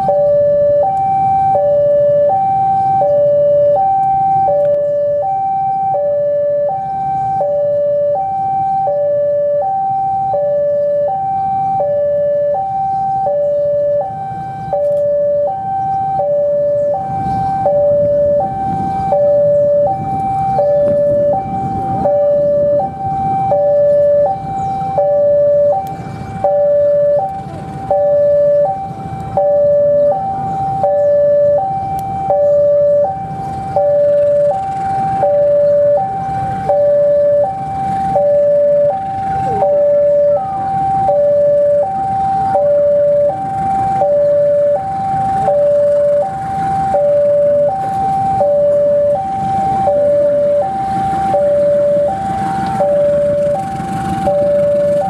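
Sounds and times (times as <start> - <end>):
diesel locomotive rumble: 0.0 - 55.0
two-tone warning alarm: 0.0 - 55.0.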